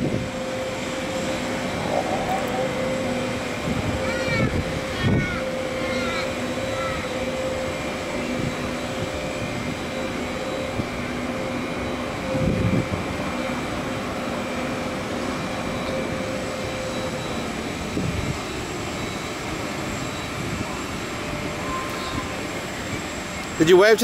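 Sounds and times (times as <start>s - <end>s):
machinery drone and hum: 0.0s - 23.7s.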